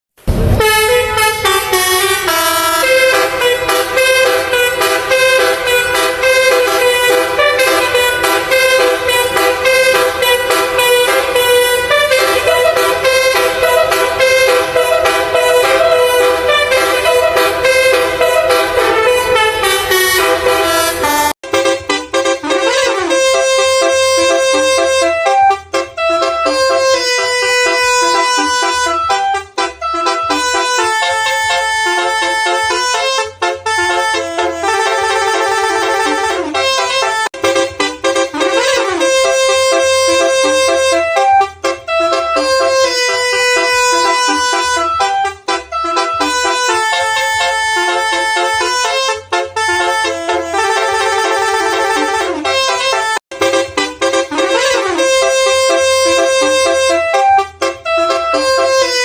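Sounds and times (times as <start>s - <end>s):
bus air horns playing melody: 0.3s - 59.0s.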